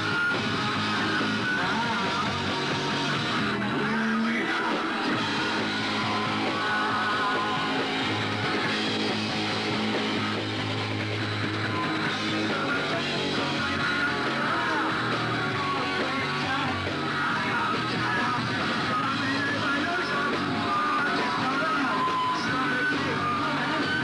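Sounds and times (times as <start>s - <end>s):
sustained bass notes: 0.0s - 21.6s
electric guitar: 0.0s - 24.0s
punk rock band playing live: 0.0s - 24.0s.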